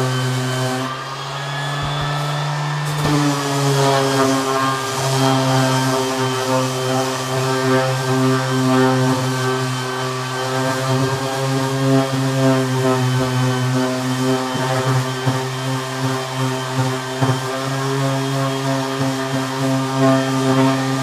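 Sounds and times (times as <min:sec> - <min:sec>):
electric power tool on wood: 0:00.0 - 0:21.0.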